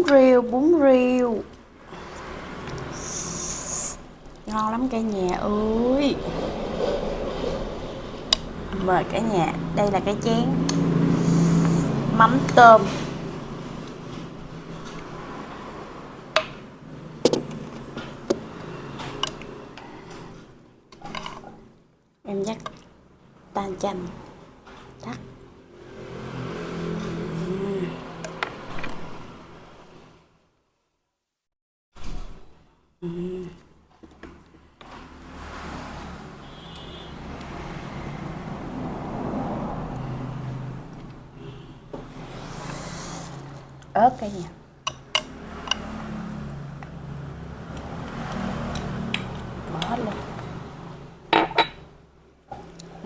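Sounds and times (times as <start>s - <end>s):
vehicle passing by: 0.6s - 21.7s, 23.0s - 30.4s, 34.5s - 53.0s.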